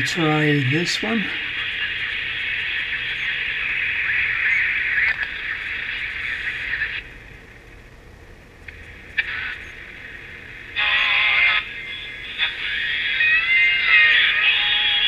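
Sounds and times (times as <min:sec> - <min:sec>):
radio speaker harsh hiss: 0:00.0 - 0:07.5, 0:08.7 - 0:15.0
faint hum: 0:00.0 - 0:15.0.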